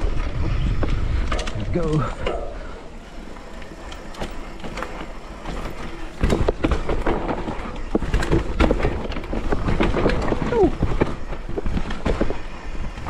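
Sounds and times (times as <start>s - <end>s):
bike rattling over bumps: 0.0s - 13.0s
bike tyres on dirt: 0.0s - 13.0s
wind: 0.0s - 13.0s.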